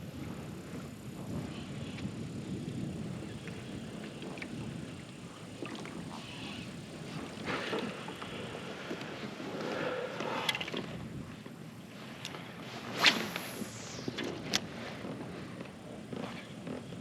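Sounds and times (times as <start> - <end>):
wind: 0.0 - 17.0
water lapping against hull: 0.1 - 17.0.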